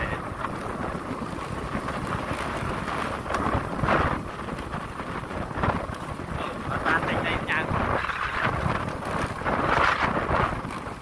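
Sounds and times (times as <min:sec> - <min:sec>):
rumble of travel on dirt road: 0:00.0 - 0:11.0
wind buffeting microphone: 0:00.0 - 0:11.0.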